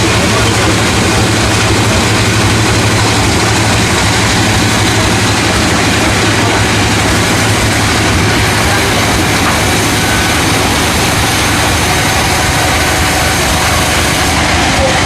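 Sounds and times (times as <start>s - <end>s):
sawmill machinery humming: 0.0s - 15.0s.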